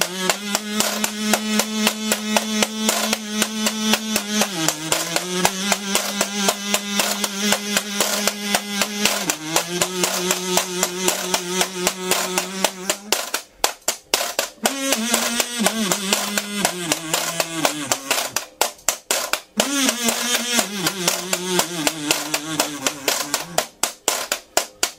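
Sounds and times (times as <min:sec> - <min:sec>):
kazoo buzzing notes: 0:00.0 - 0:24.9.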